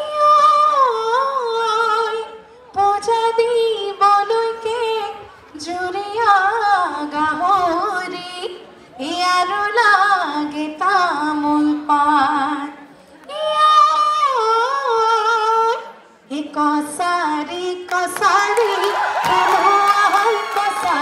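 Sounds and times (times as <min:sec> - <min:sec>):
woman singing recorded song: 0:00.0 - 0:21.0.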